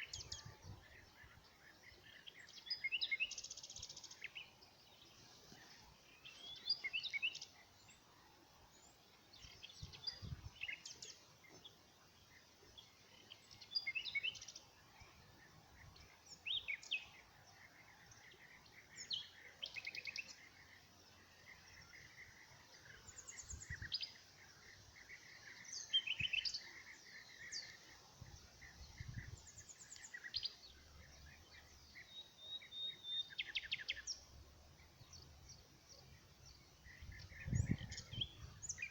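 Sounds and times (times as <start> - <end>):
small birds singing and chirping: 0.0 - 38.9.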